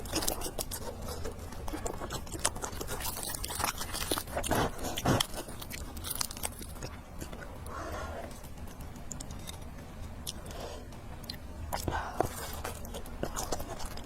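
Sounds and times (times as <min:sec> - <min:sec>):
chewing with wet mouth clicks: 0:00.0 - 0:14.0.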